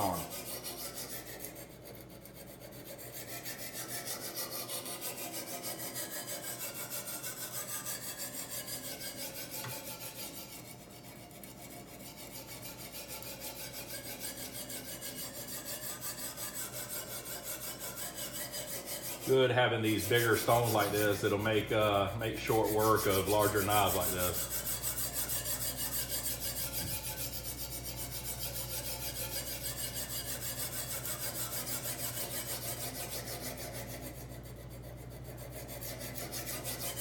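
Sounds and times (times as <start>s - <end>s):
sharpening stone rasping on knife: 0.0s - 37.0s.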